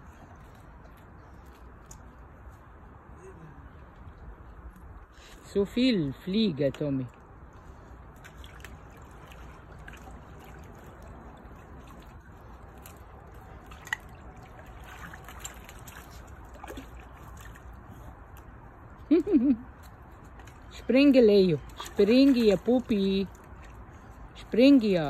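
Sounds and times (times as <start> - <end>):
faint trickling water: 0.0 - 25.0.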